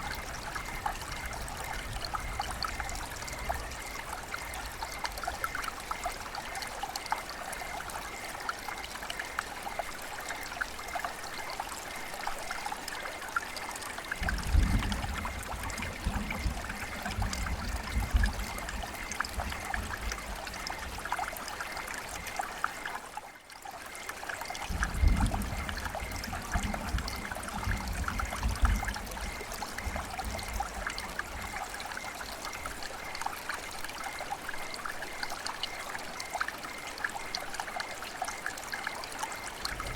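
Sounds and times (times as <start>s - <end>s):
river water flowing: 0.0s - 14.5s, 15.1s - 39.9s.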